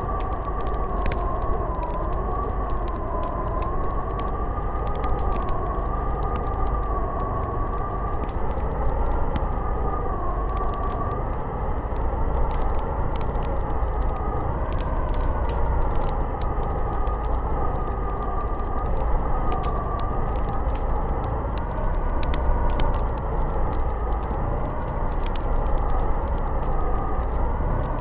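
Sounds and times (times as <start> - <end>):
low rush of wind: 0.0 - 28.0
wind howling and whistling: 0.0 - 28.0.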